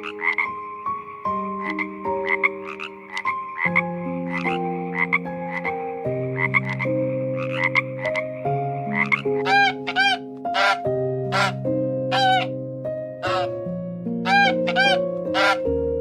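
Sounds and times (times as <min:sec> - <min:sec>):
frogs croaking: 0:00.0 - 0:12.5, 0:13.2 - 0:13.6, 0:14.3 - 0:15.6
soft background music: 0:00.0 - 0:16.0.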